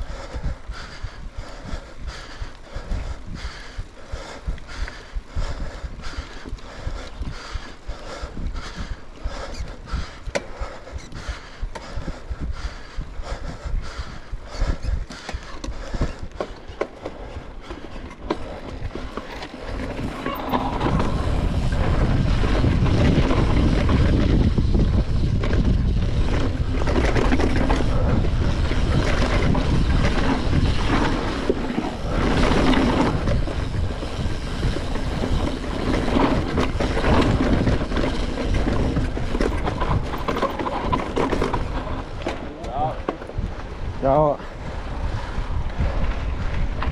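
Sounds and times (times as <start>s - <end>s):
bike tyre rumble and rattling: 0.0s - 46.9s.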